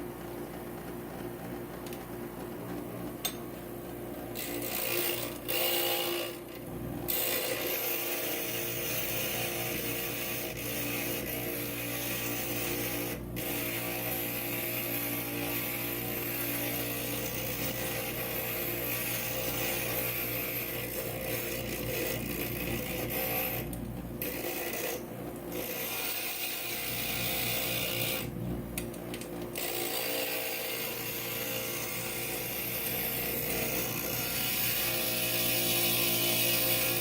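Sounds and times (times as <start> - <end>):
grinder motor hum: 4.3 - 37.0.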